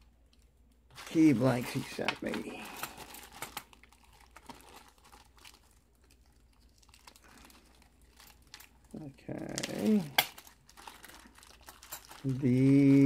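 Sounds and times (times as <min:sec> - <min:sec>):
plastic bag crinkling: 0:00.2 - 0:13.0.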